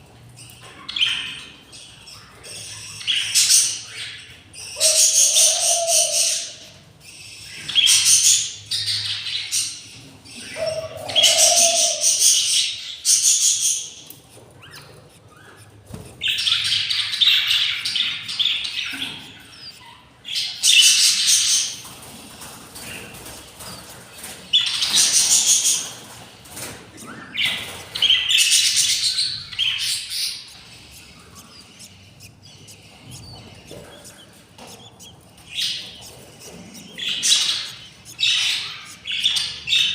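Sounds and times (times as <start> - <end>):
budgies chirping and squawking: 0.0 - 39.9.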